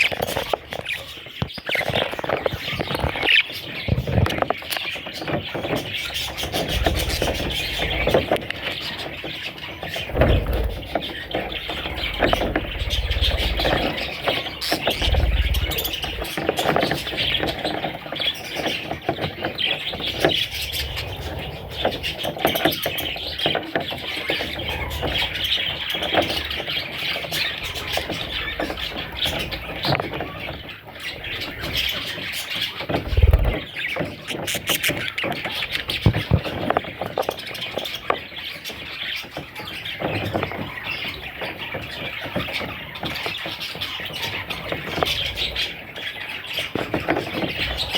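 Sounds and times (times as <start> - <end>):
chicks chirping: 0.0 - 47.9.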